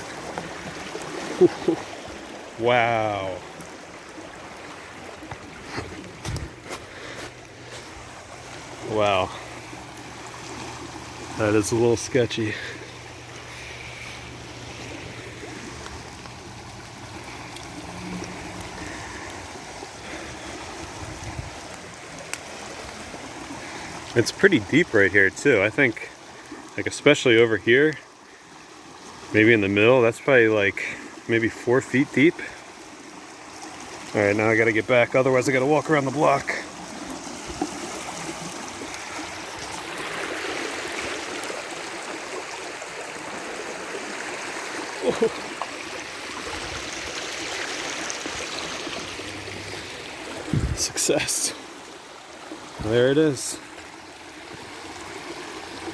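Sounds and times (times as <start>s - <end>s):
creek rushing: 0.0s - 55.9s.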